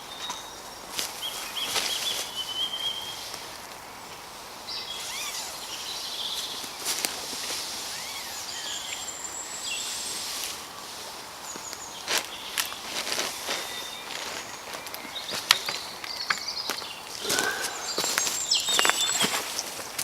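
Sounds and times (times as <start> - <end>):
birds singing: 0.0 - 20.0
faint outdoor background: 0.0 - 20.0.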